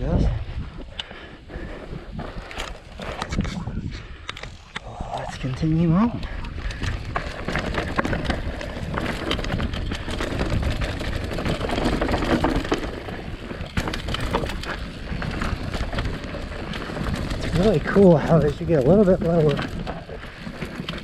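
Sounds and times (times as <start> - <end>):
bike tyres crunching on dirt: 0.7 - 21.0
bike clattering over bumps: 1.6 - 3.4, 5.4 - 21.0.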